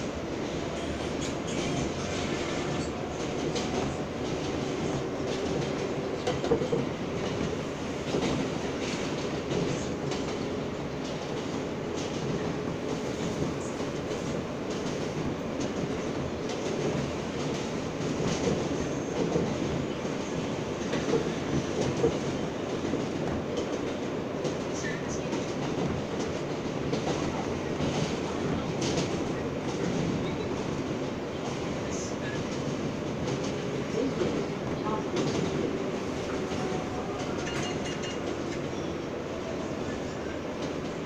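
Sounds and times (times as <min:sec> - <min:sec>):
rumble of wheels on rail: 0:00.0 - 0:41.0.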